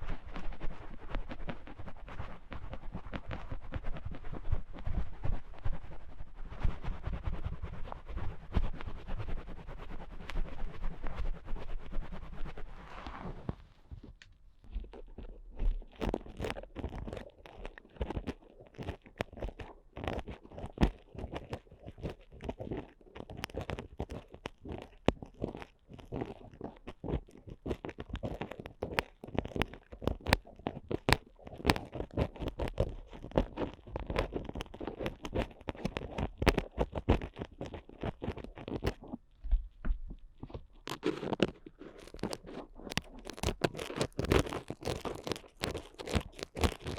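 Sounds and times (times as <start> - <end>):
ear picks scratching microphone: 0.0 - 46.9.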